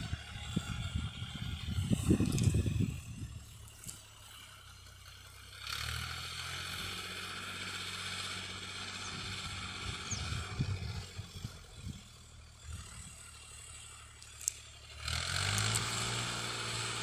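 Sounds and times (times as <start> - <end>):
distant tractor engine: 0.0 - 17.0.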